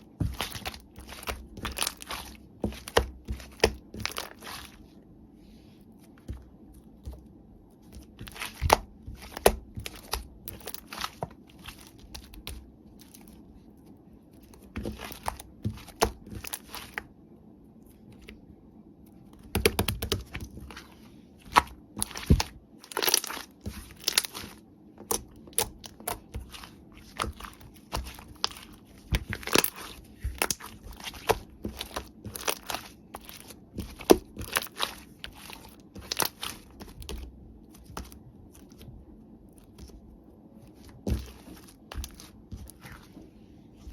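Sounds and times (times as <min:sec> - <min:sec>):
crinkling and crackling: 0:00.0 - 0:05.0, 0:05.7 - 0:17.1, 0:19.1 - 0:43.9.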